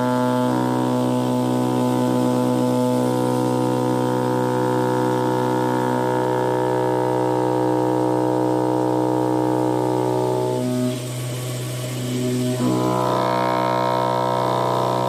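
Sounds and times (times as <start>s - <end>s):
oscillating knife cutting hum: 0.0s - 15.0s.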